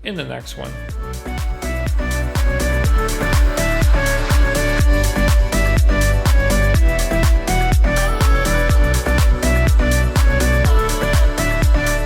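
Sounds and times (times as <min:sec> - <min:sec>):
music with kick-drum beat: 0:00.0 - 0:12.0.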